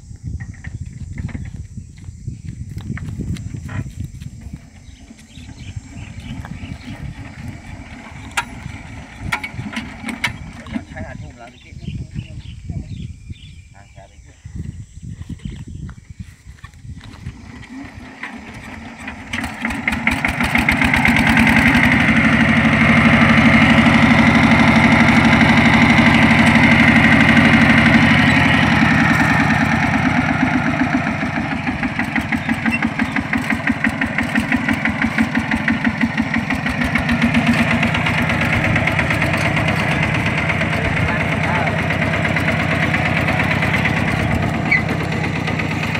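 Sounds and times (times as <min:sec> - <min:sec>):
diesel tractor engine running: 0:00.0 - 0:13.4, 0:16.5 - 0:45.9.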